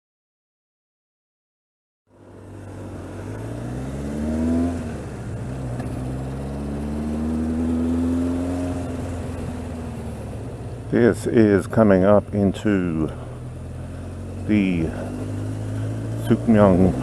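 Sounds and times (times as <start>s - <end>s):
motorcycle engine revving: 2.2s - 17.0s.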